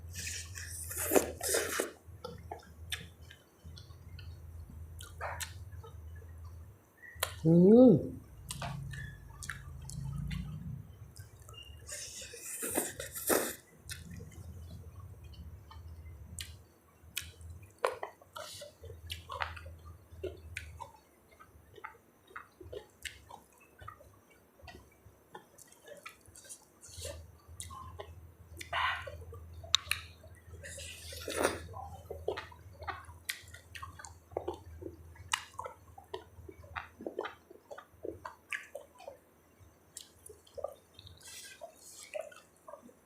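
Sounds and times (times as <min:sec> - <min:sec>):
wet chewing and mouth smacks: 0:00.1 - 0:07.4, 0:08.4 - 0:39.2, 0:39.9 - 0:43.0.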